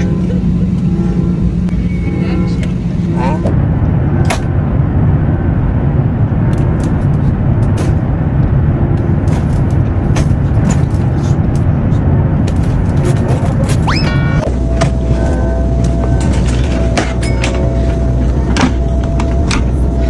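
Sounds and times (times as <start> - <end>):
aircraft rumbling in flight: 0.0 - 20.0.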